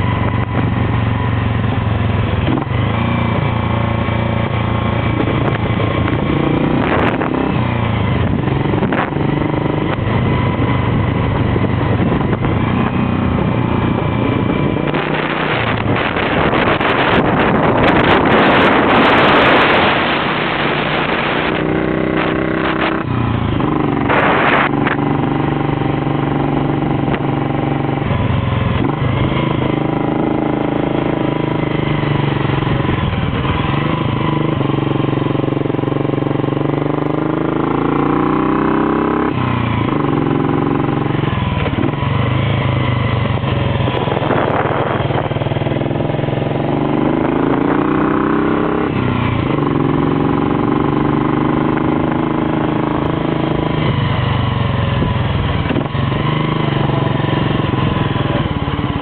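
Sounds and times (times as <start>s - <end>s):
motorcycle engine accelerating: 0.0s - 59.0s
wind on microphone: 2.2s - 59.0s.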